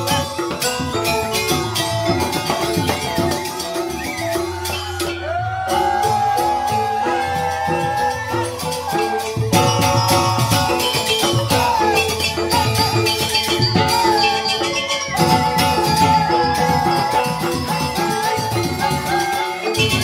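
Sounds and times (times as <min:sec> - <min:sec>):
bamboo xylophones playing: 0:00.0 - 0:20.0
drum strokes: 0:00.0 - 0:20.0
wavering high melody: 0:00.0 - 0:20.0.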